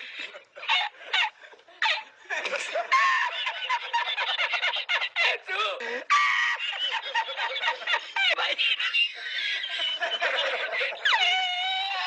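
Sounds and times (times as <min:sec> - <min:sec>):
person laughing in bursts: 0:00.2 - 0:12.0.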